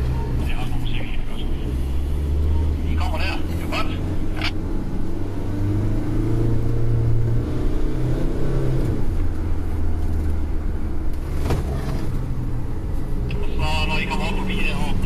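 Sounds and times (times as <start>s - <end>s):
van engine driving: 0.0s - 15.0s.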